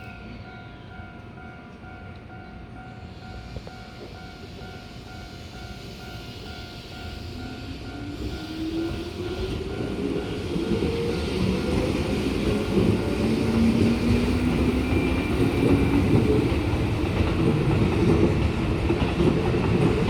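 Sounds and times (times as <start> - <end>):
train wheel rumble: 3.0 - 20.0.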